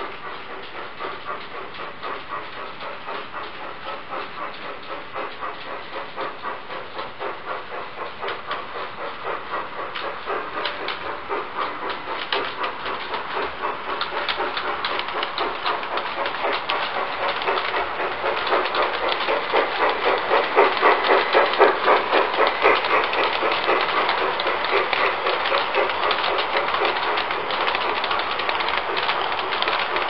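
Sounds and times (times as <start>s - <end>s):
model train wheels clicking: 0.0s - 30.0s.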